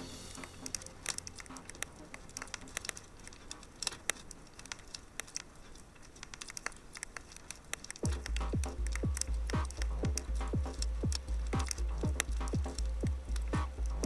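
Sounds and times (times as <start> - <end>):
faint hiss: 0.0 - 14.0
wood fire crackling: 0.0 - 14.0.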